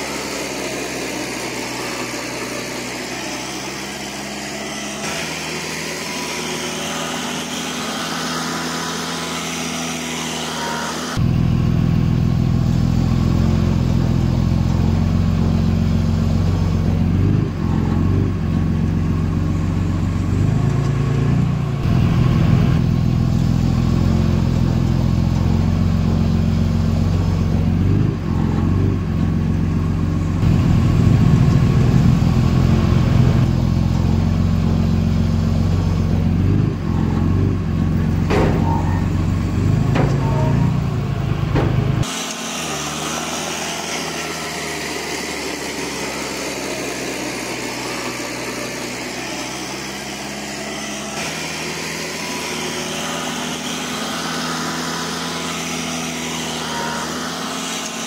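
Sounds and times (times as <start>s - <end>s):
heavy diesel engine running: 0.0s - 58.0s
light high-pitched engine: 0.0s - 58.0s.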